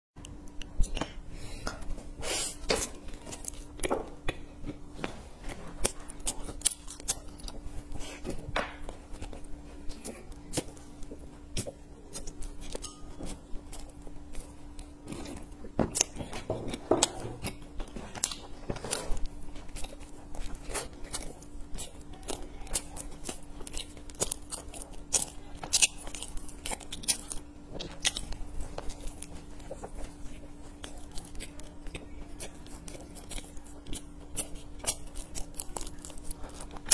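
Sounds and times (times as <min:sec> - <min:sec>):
steady hum: 0:00.2 - 0:36.9
bites and wet chewing: 0:02.4 - 0:36.9.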